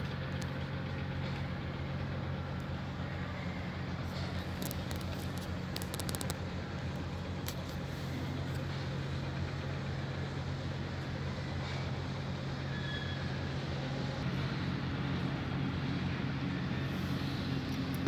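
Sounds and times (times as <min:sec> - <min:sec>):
motor engine humming: 0:00.0 - 0:18.0.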